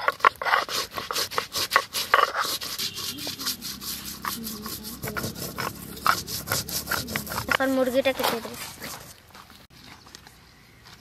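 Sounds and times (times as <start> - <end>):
stone roller grinding seeds: 0.0 - 9.2.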